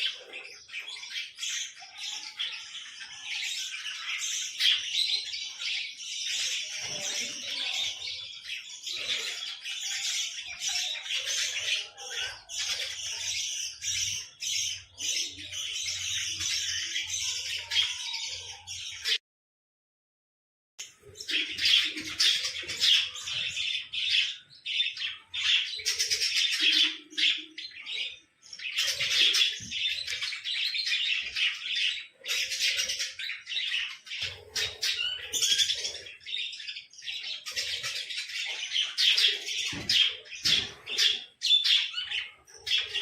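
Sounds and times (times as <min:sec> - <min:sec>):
small birds chirping: 0:00.0 - 0:19.2, 0:20.8 - 0:43.0.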